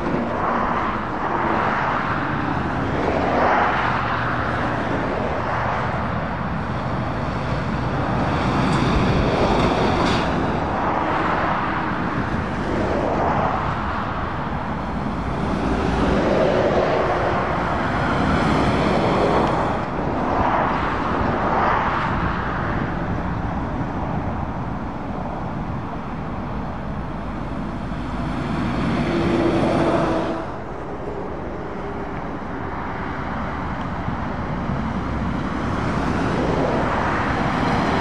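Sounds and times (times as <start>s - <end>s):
lorries and cars passing at speed: 0.0s - 38.0s.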